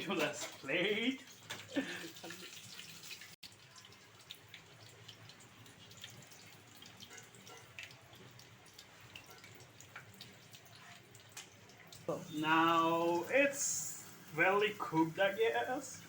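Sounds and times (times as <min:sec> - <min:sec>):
hot oil crackling and sizzling: 0:00.0 - 0:16.0.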